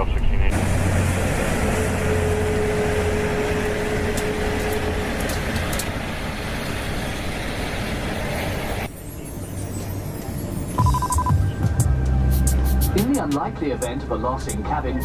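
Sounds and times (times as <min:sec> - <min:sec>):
cockpit engine rush: 0:00.0 - 0:08.9, 0:10.1 - 0:15.0.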